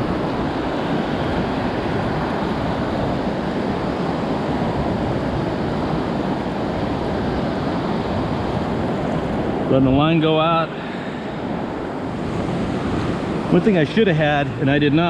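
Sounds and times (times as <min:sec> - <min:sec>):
shallow ocean surf: 0:00.0 - 0:15.0.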